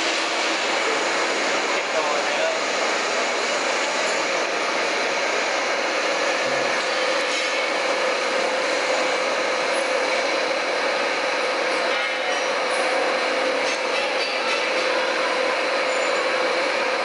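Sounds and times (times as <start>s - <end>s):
constant machine whine: 0.0s - 17.0s.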